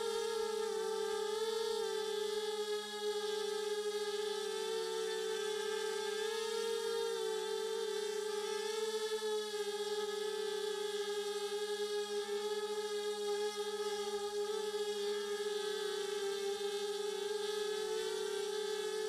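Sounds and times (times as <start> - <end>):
quadcopter motors humming: 0.0 - 19.0.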